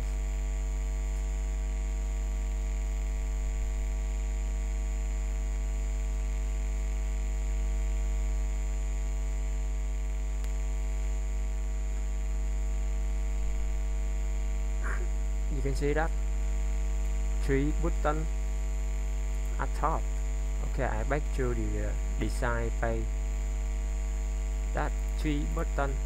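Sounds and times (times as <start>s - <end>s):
electrical mains hum: 0.0s - 26.0s
faint high-pitched whine: 0.0s - 26.0s.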